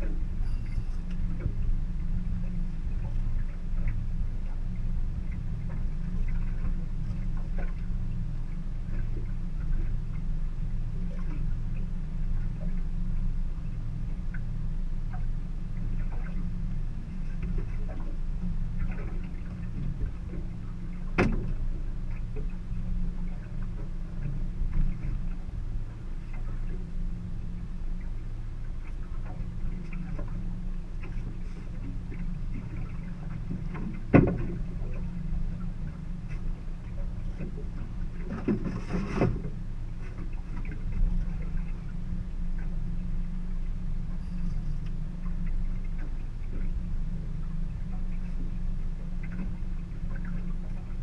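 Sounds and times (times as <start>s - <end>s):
outboard motor idling: 0.0s - 51.0s.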